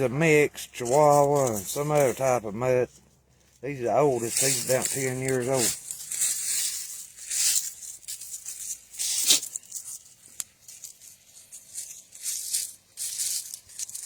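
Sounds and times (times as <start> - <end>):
leaves crunching underfoot: 0.8 - 14.0.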